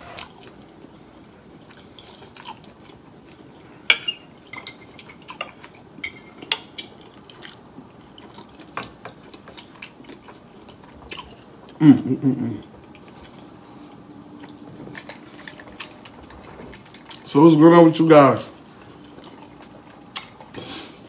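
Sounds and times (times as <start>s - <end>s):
wet chewing sounds: 0.2s - 3.5s, 4.9s - 11.8s, 12.6s - 17.3s, 18.7s - 20.9s.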